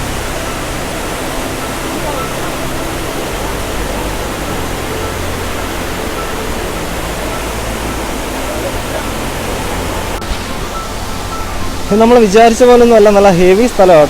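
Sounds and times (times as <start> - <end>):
waterfall pouring: 0.0 - 14.0.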